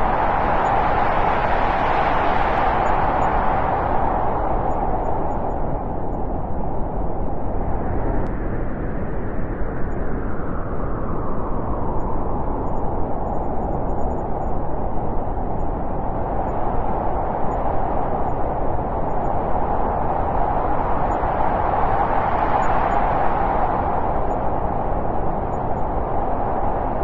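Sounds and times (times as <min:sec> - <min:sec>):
wind blowing: 0:00.0 - 0:27.0.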